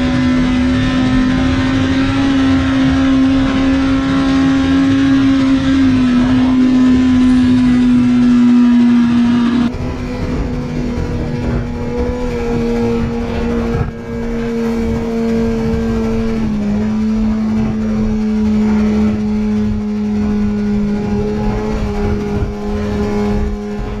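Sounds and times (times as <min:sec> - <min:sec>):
motorcycle engine at speed: 0:00.0 - 0:24.0
wind noise: 0:00.0 - 0:24.0.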